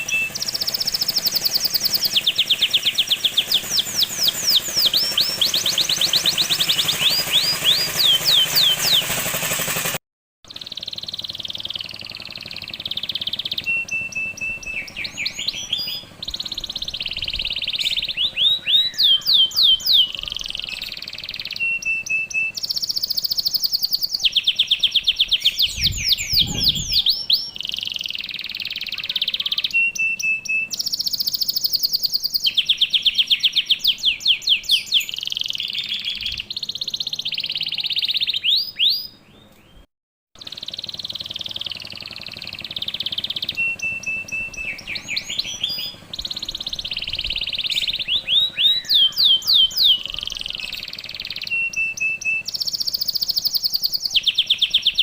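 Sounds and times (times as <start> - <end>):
canary singing trills: 0.0 - 9.4, 10.4 - 55.0.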